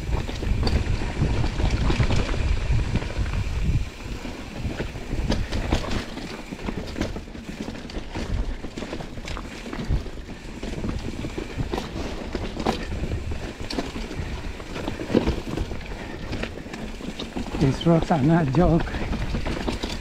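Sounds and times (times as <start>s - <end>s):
bike clattering on rocks: 0.0s - 20.0s
wind buffeting microphone: 0.0s - 20.0s.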